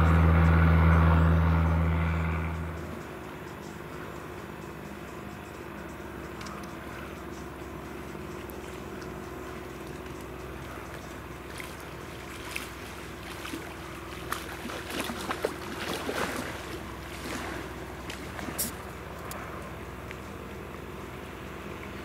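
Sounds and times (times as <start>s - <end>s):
distant propeller plane droning: 0.0s - 22.0s.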